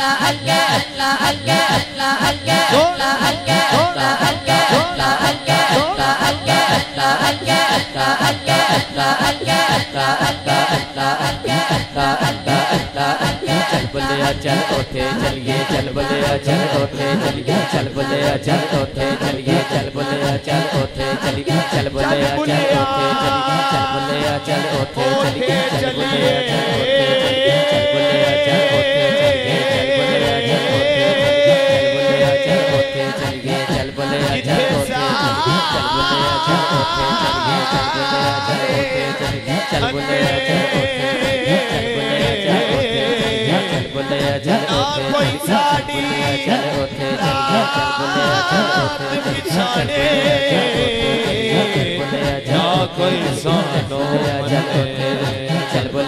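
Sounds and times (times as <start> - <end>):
man singing into a microphone: 0.0 - 56.0
men chanting: 0.0 - 56.0.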